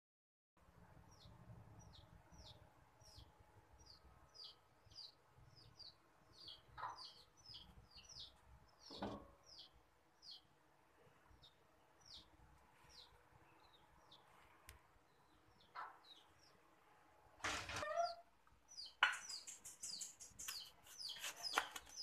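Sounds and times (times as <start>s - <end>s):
small birds chirping: 0.7s - 22.0s.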